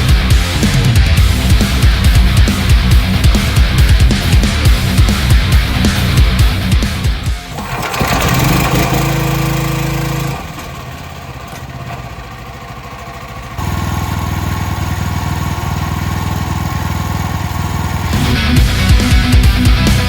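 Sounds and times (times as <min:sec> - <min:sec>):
pressure washer engine running: 0:00.0 - 0:20.0.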